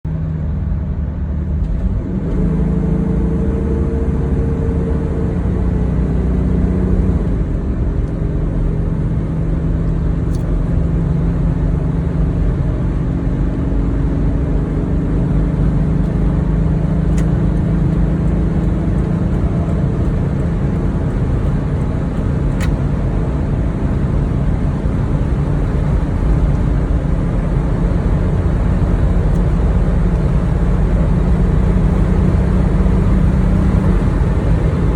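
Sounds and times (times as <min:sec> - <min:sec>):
road noise: 0:00.0 - 0:34.9
diesel engine droning: 0:00.1 - 0:34.9.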